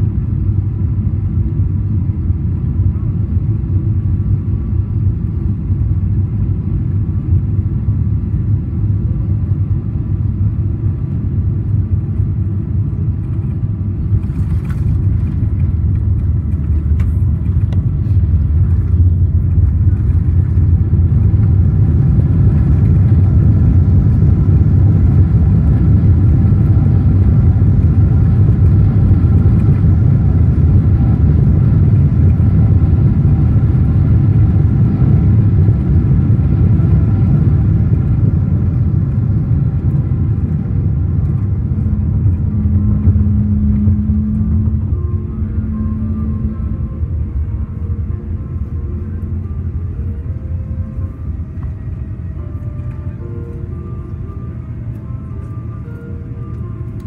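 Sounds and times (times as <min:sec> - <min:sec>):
jet engine and airflow rumble: 0:00.0 - 0:57.0.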